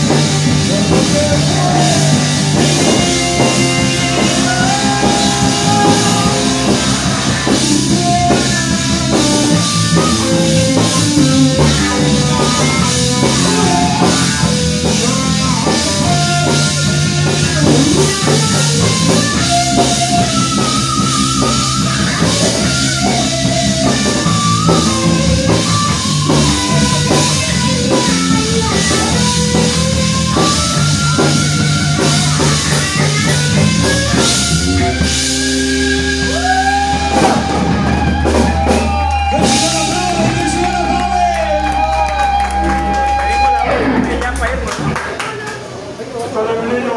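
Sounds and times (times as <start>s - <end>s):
drum kit: 0.0s - 45.9s
electric guitar melody: 0.0s - 45.9s
electric bass: 0.0s - 46.9s.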